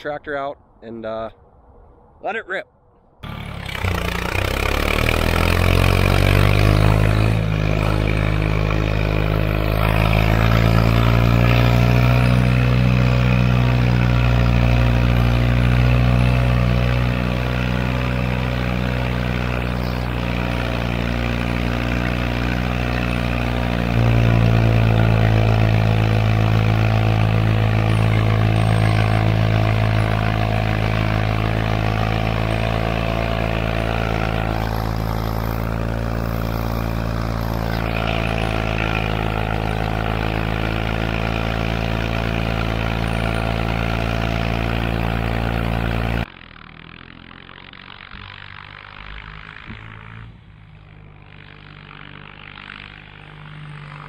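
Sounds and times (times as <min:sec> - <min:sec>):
tractor engine running: 0:03.2 - 0:54.0.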